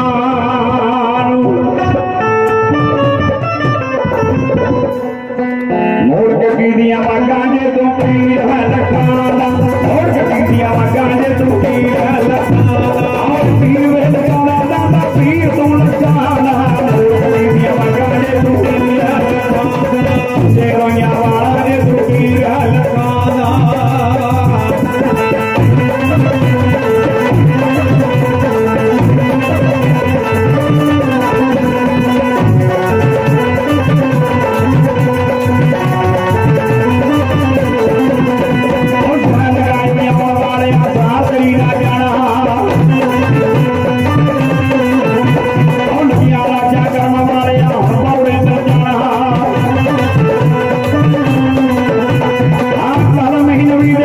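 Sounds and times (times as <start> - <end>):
hand drums driving rhythm: 0.0 - 54.0
keyboard held notes: 0.0 - 54.0
hand clapper percussion: 8.0 - 54.0.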